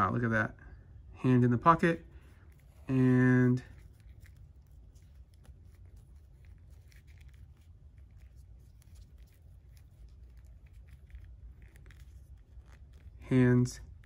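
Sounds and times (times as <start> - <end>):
low steady hum: 0.0 - 14.0
fingers rubbing plastic figure: 2.0 - 14.0.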